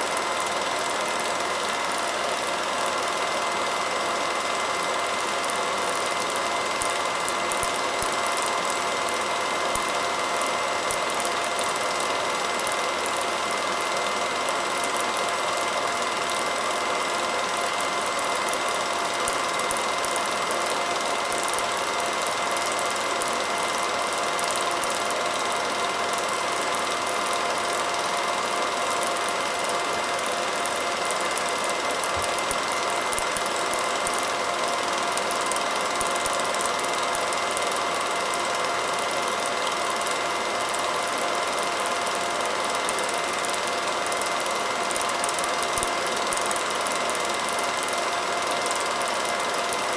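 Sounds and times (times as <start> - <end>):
film projector whirring: 0.0 - 49.9.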